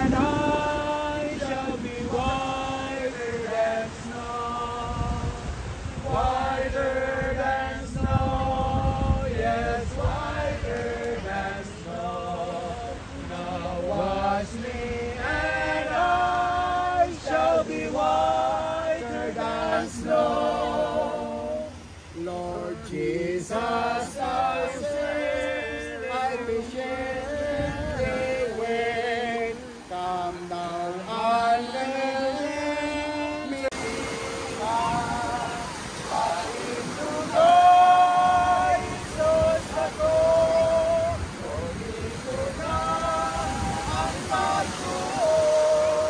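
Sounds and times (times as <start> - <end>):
group singing a slow hymn: 0.0 - 46.0
wind rumbling on microphone: 0.0 - 46.0.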